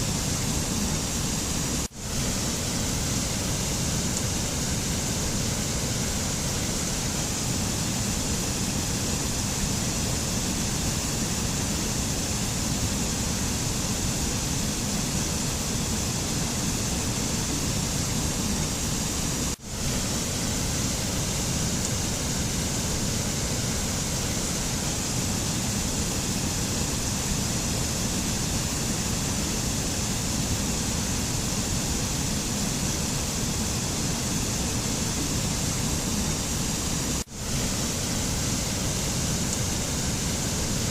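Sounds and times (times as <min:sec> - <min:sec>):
steady rushing noise: 0:00.0 - 0:40.9.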